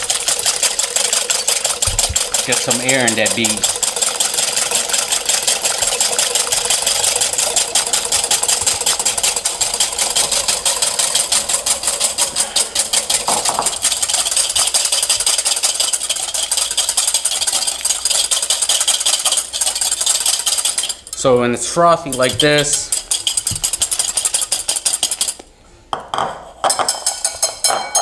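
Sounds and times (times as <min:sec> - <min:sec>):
whisk clattering against bowl: 0:00.0 - 0:25.4, 0:26.1 - 0:28.0.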